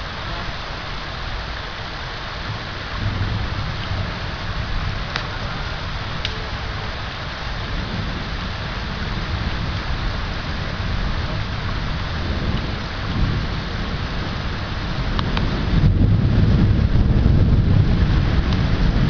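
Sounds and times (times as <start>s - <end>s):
heavy rain on foliage: 0.0s - 19.0s
low rumble: 0.0s - 19.0s.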